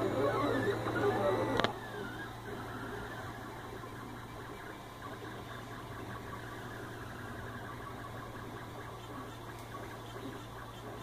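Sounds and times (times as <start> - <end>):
machine hum with fan noise: 0.0 - 11.0.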